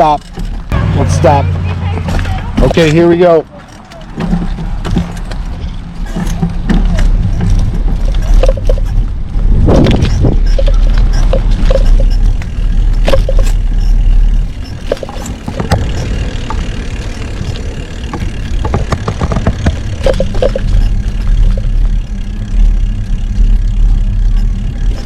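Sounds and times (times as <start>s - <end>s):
bicycle clicks and rattles: 0.0s - 1.4s, 2.0s - 25.0s
wind and road noise: 0.0s - 25.0s.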